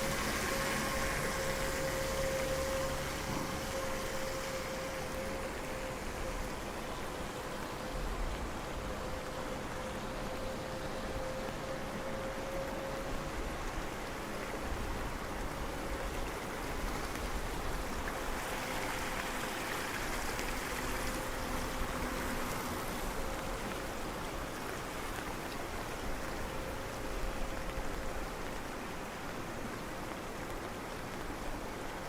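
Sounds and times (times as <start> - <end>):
rain: 0.0 - 32.0
rushing water: 0.0 - 32.0.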